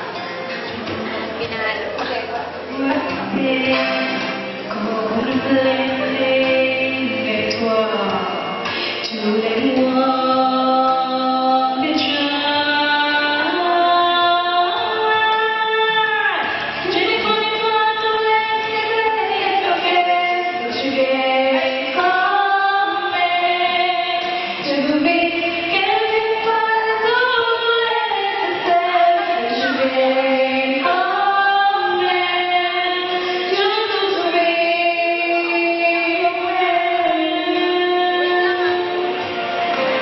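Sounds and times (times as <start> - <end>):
women singing together: 2.8 - 40.0.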